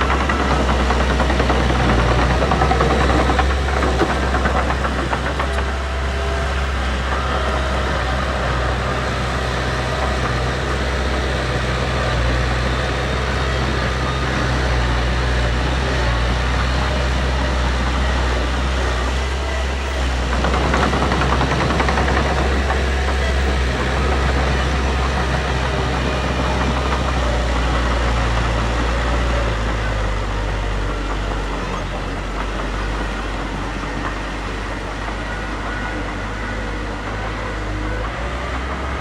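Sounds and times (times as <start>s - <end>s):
heavy machinery diesel engine: 0.0s - 39.0s.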